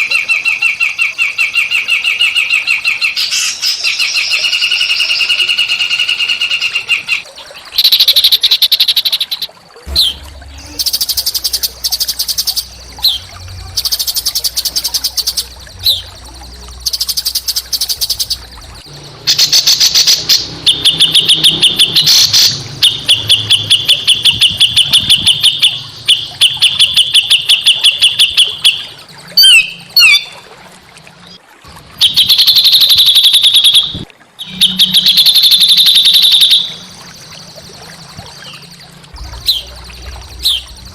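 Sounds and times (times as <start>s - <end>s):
songbirds singing harsh trills: 0.0s - 30.4s, 32.0s - 40.9s.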